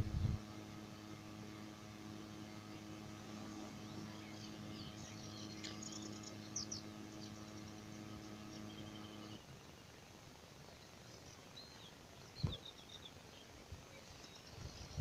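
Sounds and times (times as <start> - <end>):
faint songbirds chirping: 0.0 - 15.0
low electrical hum: 0.0 - 15.0.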